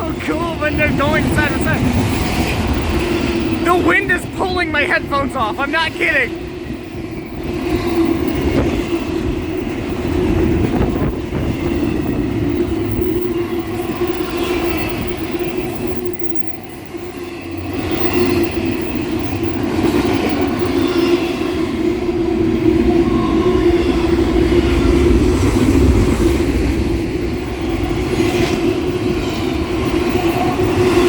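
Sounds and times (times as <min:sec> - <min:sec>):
wind buffeting microphone: 0:00.0 - 0:04.4, 0:06.3 - 0:31.0
train wheels rumbling on rails: 0:00.0 - 0:31.0.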